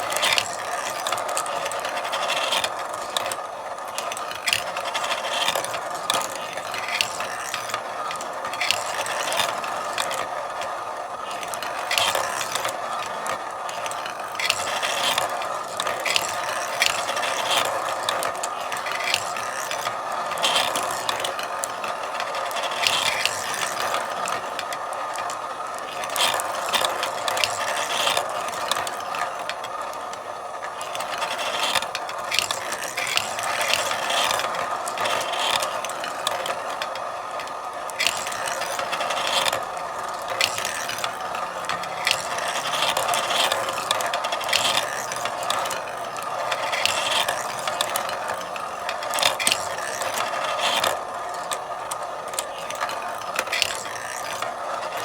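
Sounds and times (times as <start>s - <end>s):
marbles clicking and clacking: 0.0s - 55.0s
marbles rolling: 0.0s - 55.0s.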